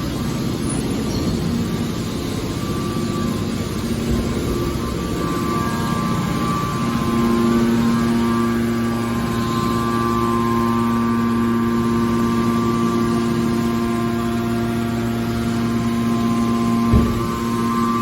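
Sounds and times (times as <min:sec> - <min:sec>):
hydraulic baler running: 0:00.0 - 0:18.0.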